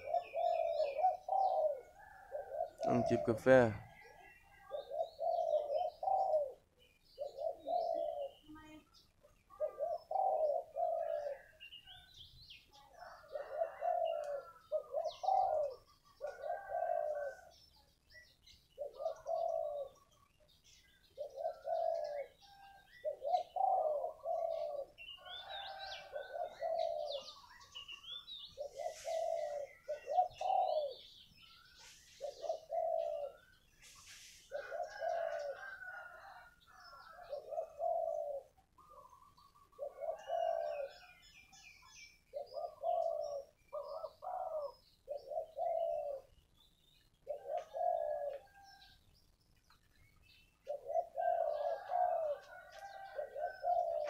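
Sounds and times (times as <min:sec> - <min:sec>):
dove cooing: 0:00.0 - 0:46.4, 0:47.2 - 0:49.0, 0:50.6 - 0:54.0
small birds chirping: 0:00.0 - 0:54.0.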